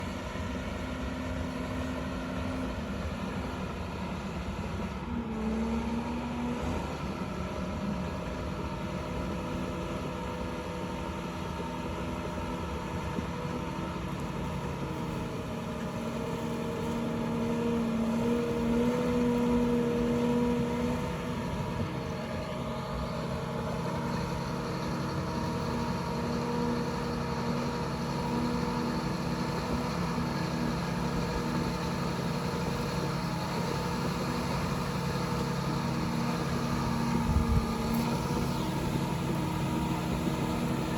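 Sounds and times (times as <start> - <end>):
diesel dozer engine running: 0.0 - 40.9.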